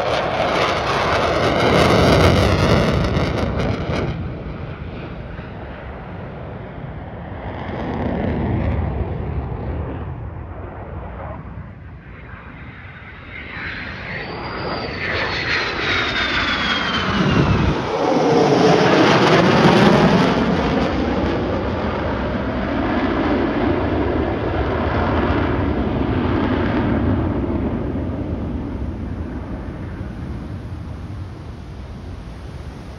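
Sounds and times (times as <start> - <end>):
fighter jet flying past: 0.0 - 32.9.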